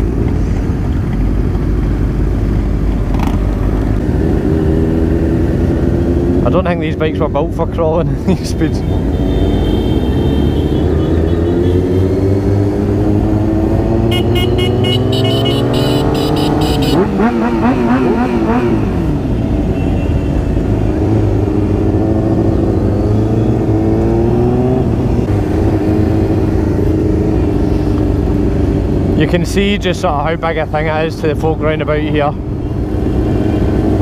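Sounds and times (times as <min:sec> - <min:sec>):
motorcycle engines passing: 0:00.0 - 0:34.0.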